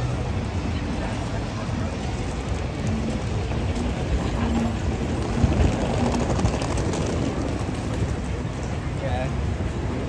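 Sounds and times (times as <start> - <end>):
traffic running: 0.0 - 10.0.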